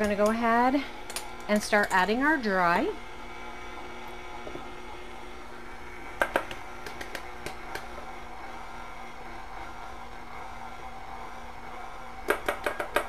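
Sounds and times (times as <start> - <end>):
electric stand mixer running: 2.1 - 13.0.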